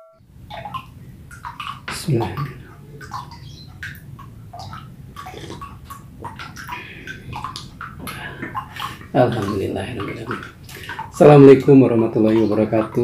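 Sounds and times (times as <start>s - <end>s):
water splashing into pond: 0.3s - 13.0s.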